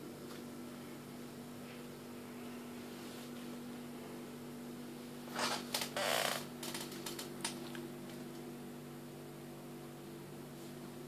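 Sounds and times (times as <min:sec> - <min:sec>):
steady low electrical hum: 0:00.0 - 0:11.0.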